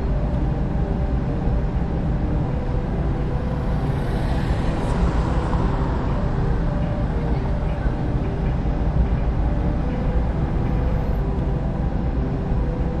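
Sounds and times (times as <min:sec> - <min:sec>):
vehicle traffic rumble: 0:00.0 - 0:13.0.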